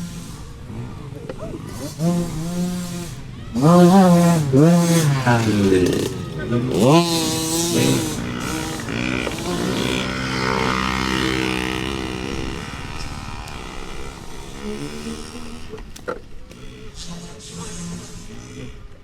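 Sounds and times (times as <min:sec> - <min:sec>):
dirt bike engines buzzing: 0:00.0 - 0:19.0.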